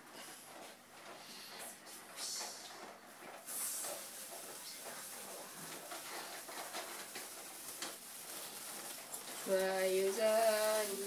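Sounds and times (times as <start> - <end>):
sparklers fizzing and crackling: 1.7 - 11.0.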